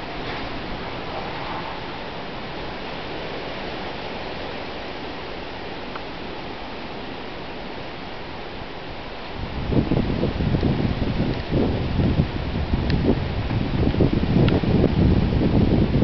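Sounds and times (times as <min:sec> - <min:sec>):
storm wind hissing: 0:00.0 - 0:16.0
wind gusts buffeting microphone: 0:00.0 - 0:16.0.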